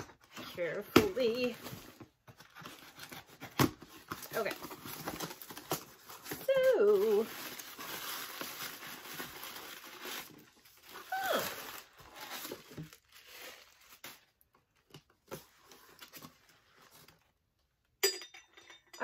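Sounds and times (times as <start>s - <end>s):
paper packing rustling: 0.0s - 17.2s.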